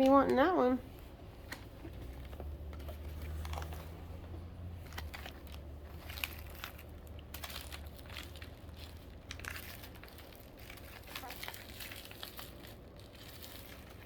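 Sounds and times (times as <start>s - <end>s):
low steady hum: 0.0s - 14.0s
plastic packaging crinkling: 0.0s - 14.0s
small clicks and crackles: 1.5s - 4.0s, 4.8s - 14.0s.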